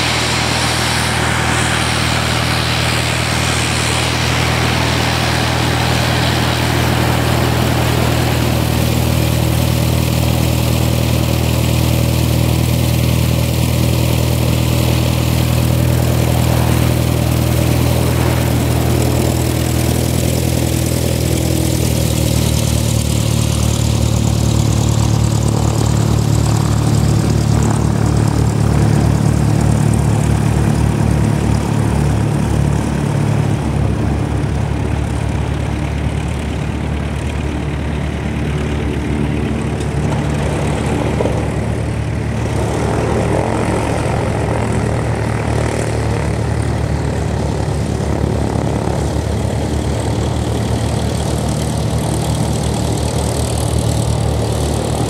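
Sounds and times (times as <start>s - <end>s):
hissing whine: 0.0s - 55.0s
propeller engine drone: 0.0s - 55.0s.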